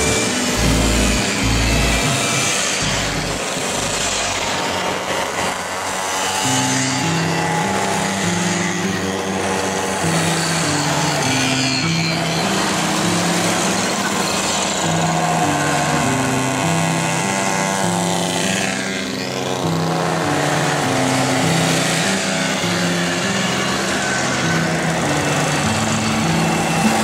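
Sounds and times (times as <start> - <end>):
mopeds buzzing past: 0.0 - 27.0.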